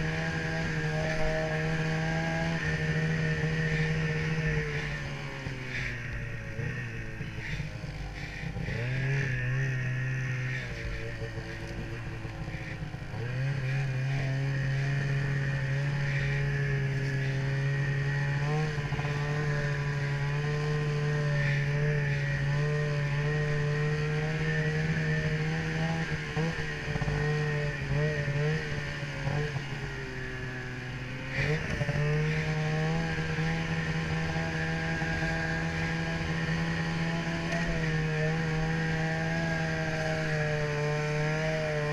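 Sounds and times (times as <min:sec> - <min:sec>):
snowmobile engine running: 0:00.0 - 0:41.9.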